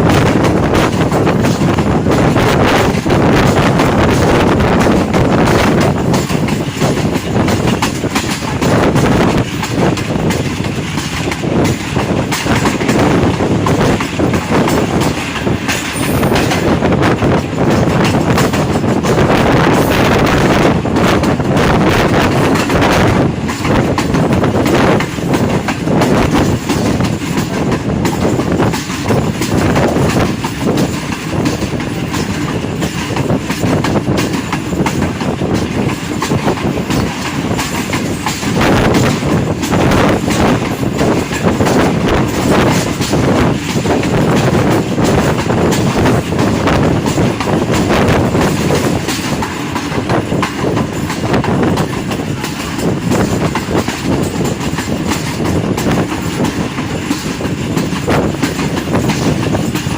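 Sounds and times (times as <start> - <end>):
train coaches rumbling: 0.0 - 59.9
wheels clattering over rail joints: 0.0 - 59.9.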